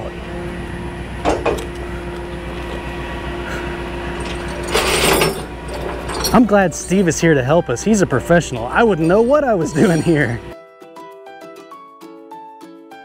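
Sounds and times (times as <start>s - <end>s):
hydraulic whine: 0.0s - 10.5s
tow truck engine running: 0.0s - 10.5s.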